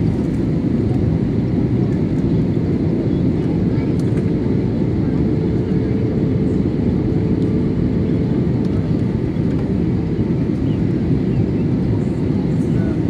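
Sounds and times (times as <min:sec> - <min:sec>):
airliner engine and airflow rumble: 0:00.0 - 0:13.0.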